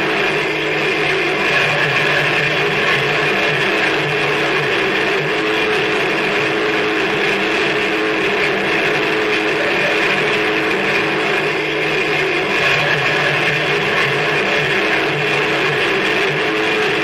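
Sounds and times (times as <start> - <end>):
distorted noise wall: 0.0 - 17.0
low droning tones: 0.0 - 17.0.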